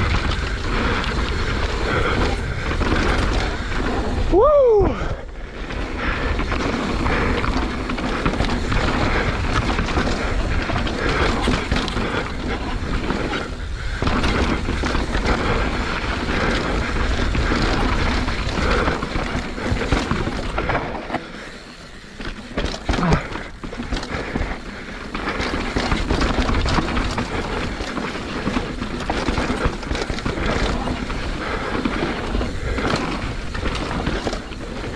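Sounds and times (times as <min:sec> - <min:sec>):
bike clattering and rattling: 0:00.0 - 0:34.9
tyre and wind rushing: 0:00.0 - 0:34.9.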